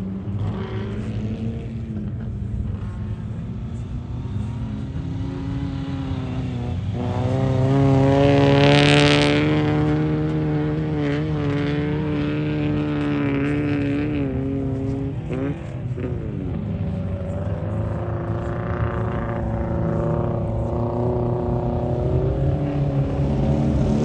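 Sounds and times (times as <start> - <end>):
sports car engine driving past: 0.0 - 24.0.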